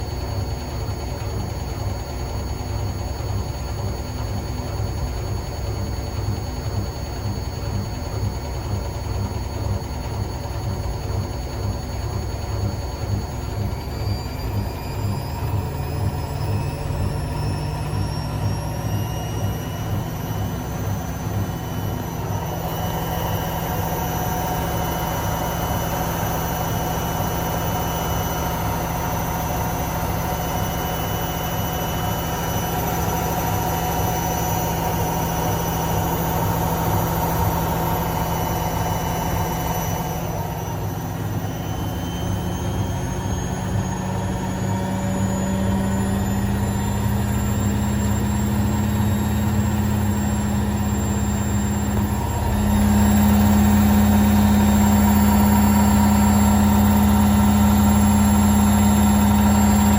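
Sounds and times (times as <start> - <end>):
washing machine motor humming: 0.0 - 59.9.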